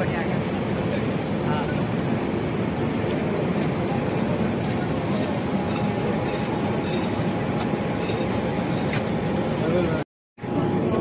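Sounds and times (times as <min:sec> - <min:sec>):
electric locomotive whirring: 0:00.0 - 0:11.0.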